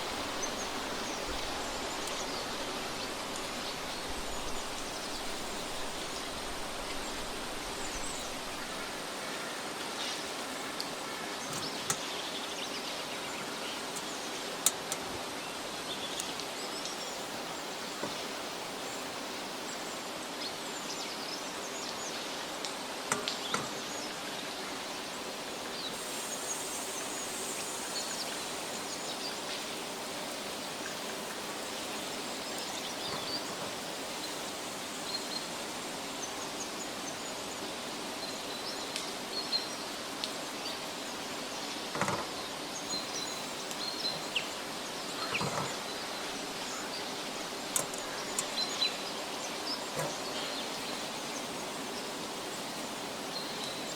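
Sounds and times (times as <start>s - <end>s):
steady outdoor hiss: 0.0s - 53.9s.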